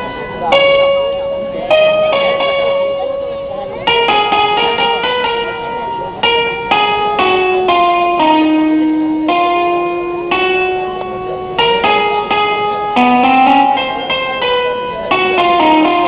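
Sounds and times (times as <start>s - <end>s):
electronic keyboard slow melody: 0.0s - 16.0s.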